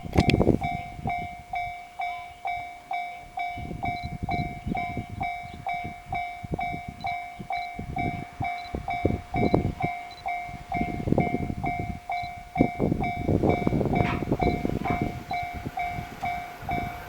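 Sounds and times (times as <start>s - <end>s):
electric train rumbling: 0.0s - 17.0s
level crossing bell ringing: 0.6s - 17.0s.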